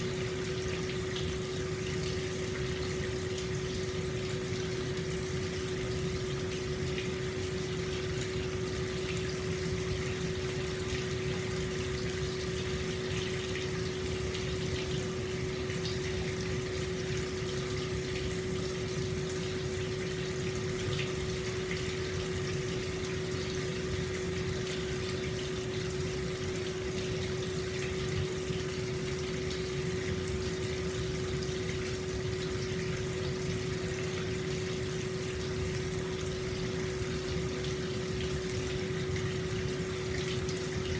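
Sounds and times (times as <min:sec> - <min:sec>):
water flowing into a bath: 0:00.0 - 0:40.9.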